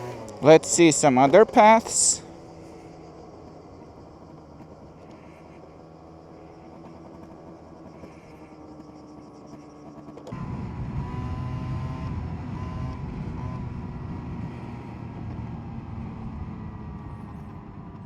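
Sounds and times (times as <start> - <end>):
scooter engine revving: 0.0 - 18.0.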